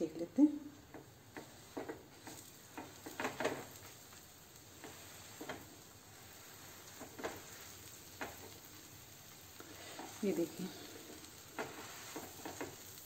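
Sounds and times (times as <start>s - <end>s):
butter sizzling on a hot pan: 0.0s - 13.0s
soft taps and rustles of bread: 0.8s - 13.0s.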